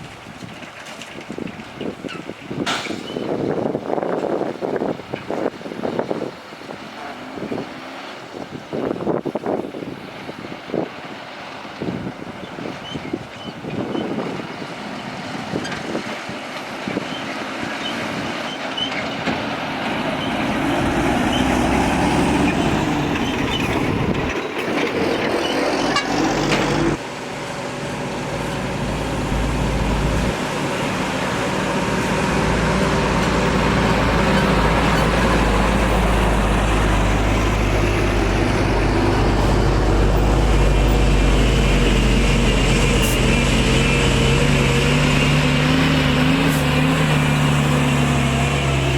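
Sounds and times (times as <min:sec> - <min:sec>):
heavy diesel machinery engines: 0:00.0 - 0:48.9.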